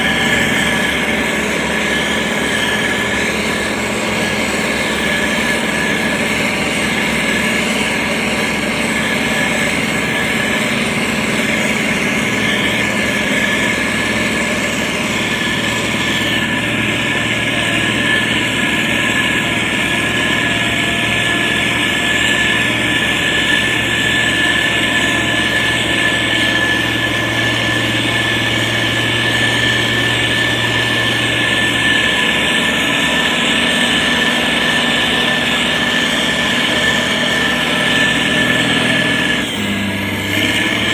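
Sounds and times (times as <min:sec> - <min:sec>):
diesel engine running: 0:00.0 - 0:40.9
high whine: 0:00.0 - 0:40.9.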